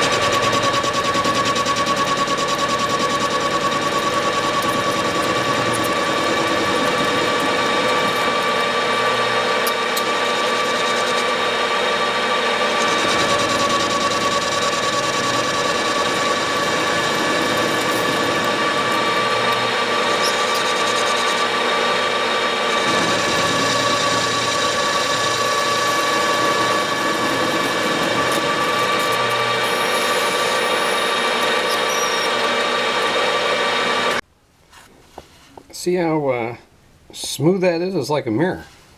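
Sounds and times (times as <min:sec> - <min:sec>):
lathe tool cutting aluminium: 0:00.0 - 0:34.2
metal lathe gear whine: 0:00.0 - 0:34.2.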